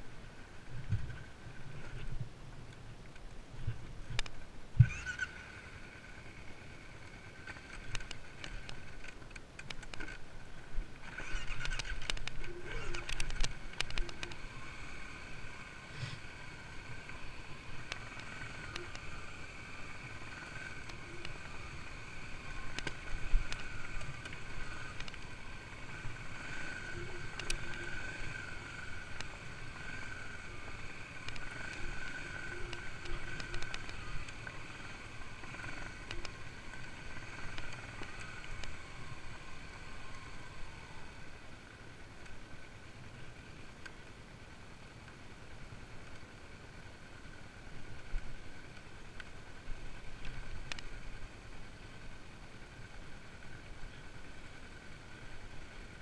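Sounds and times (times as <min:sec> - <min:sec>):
dirt bike engine running: 0:03.6 - 0:56.0.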